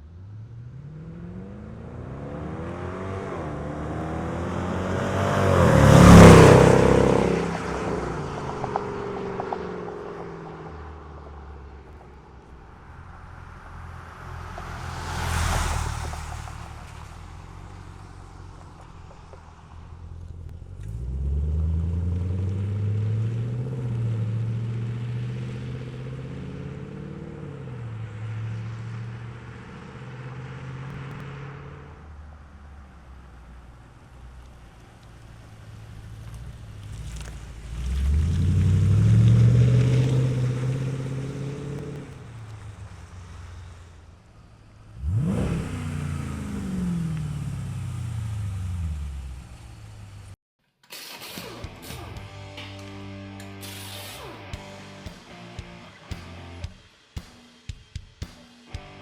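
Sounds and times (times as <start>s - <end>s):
car engine passing by loudly: 0.0s - 56.7s
engine accelerating: 0.0s - 57.0s.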